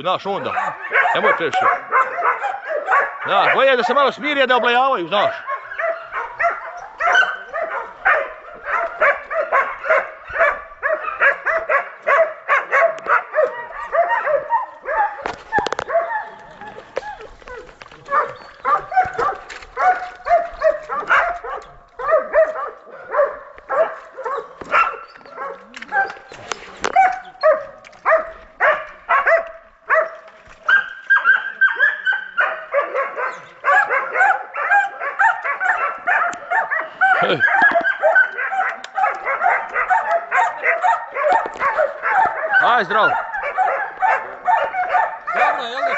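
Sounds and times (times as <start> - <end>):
dog yelping barks: 0.2 - 45.9.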